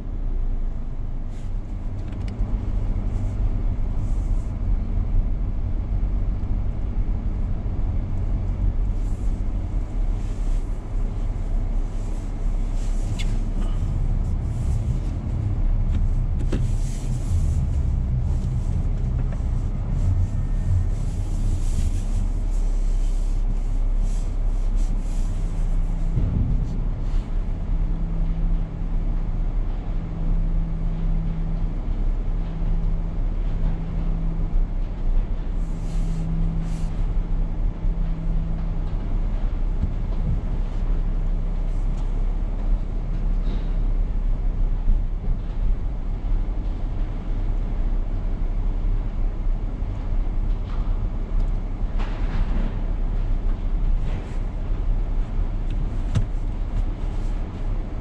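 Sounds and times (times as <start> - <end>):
low vehicle rumble: 0.0 - 58.0.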